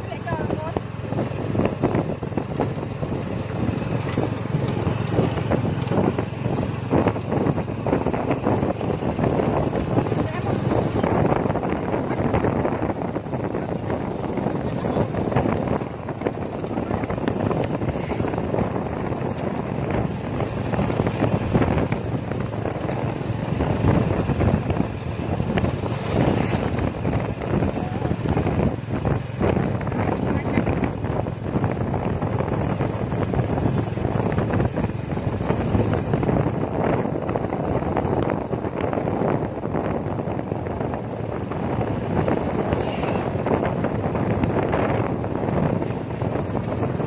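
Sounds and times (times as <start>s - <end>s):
vehicle engine running: 0.0s - 47.0s
wind buffeting microphone: 0.0s - 47.0s.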